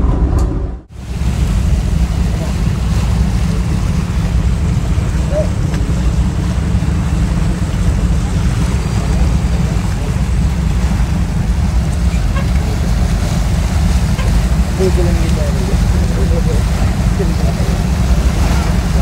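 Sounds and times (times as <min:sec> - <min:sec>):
ferry engine low rumble: 0:00.0 - 0:19.0.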